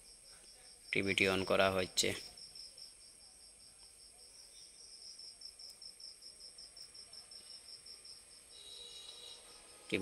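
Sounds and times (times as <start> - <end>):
faint insect chirping: 0.0 - 10.0.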